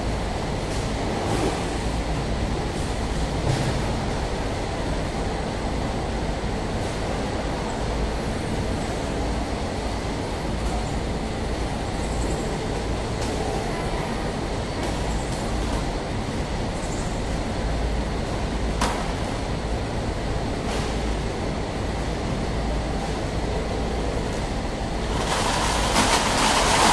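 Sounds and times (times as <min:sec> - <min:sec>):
machinery humming and rattling: 0:00.0 - 0:26.9.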